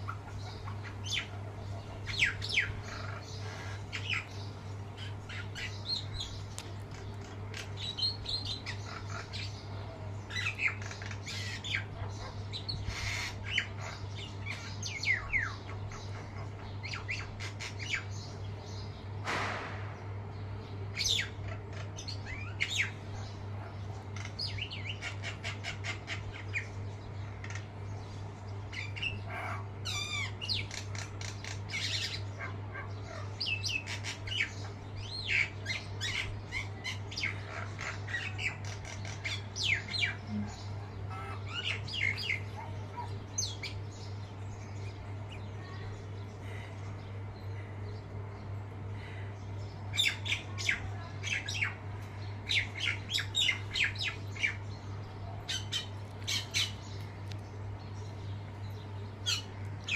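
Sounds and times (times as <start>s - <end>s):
birds chirping and calling: 0.0s - 59.9s
low steady hum: 0.0s - 59.9s.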